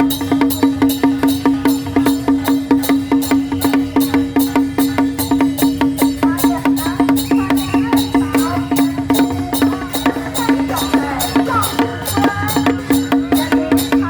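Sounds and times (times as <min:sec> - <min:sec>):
fast percussion strikes: 0:00.0 - 0:14.0.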